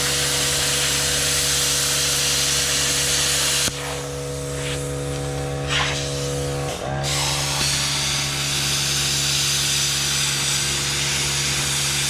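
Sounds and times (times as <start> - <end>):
machine humming: 0.0 - 12.0
plasma cutter hissing: 0.0 - 12.0.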